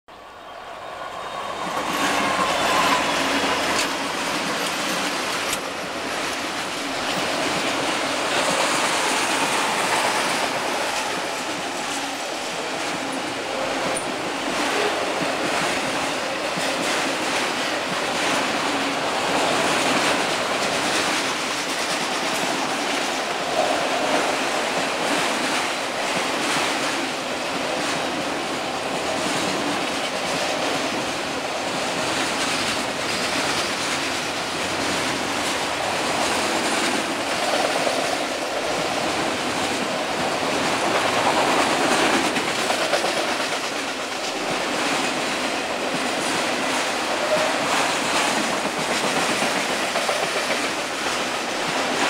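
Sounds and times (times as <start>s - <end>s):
freight train wheels on rail: 0.1s - 52.0s
clickety-clack over rail joints: 1.4s - 52.0s.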